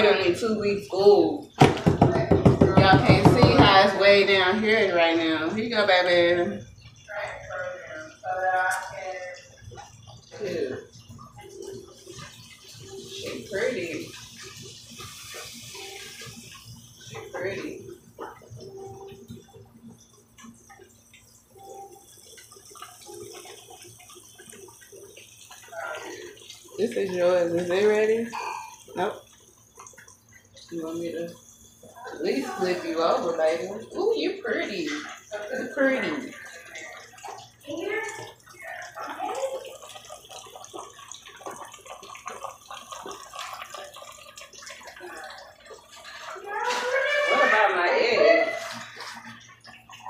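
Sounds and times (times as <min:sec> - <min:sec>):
fish frying in oil: 0:00.0 - 0:50.0.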